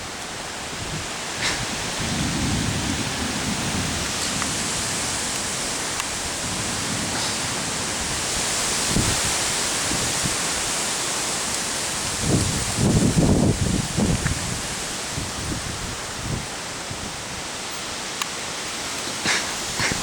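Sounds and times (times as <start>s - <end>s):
wind buffeting microphone: 0.0s - 17.8s, 19.2s - 20.0s
wind gusts rushing: 0.0s - 20.0s.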